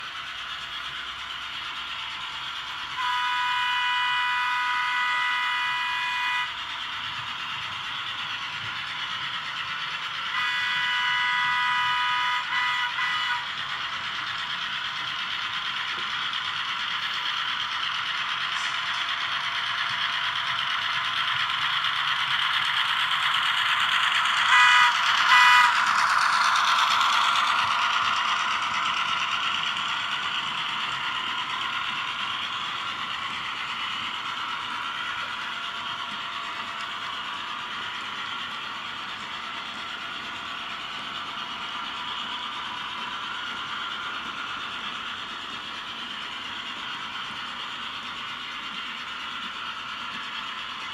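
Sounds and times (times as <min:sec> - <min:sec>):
model train rattling on track: 0:00.0 - 0:50.9.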